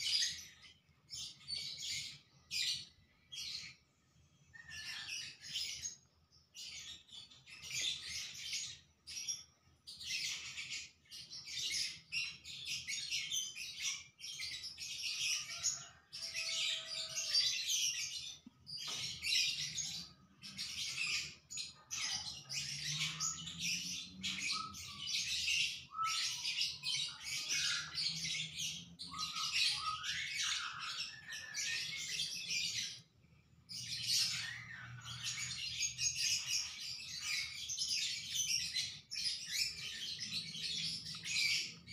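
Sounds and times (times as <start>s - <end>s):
small birds chirping and twittering: 0.0s - 41.9s.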